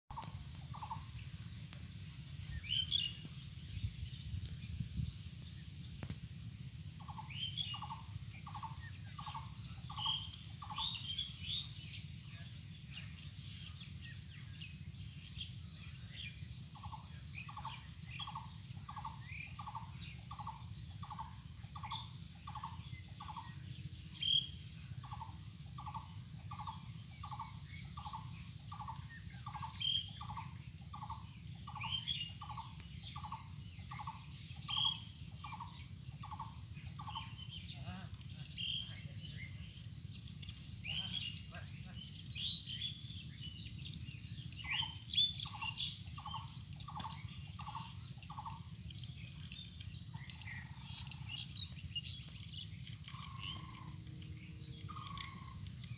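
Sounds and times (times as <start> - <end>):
other birds chirping: 0.1 - 4.8, 5.4 - 55.9
low steady rumble: 0.1 - 55.9.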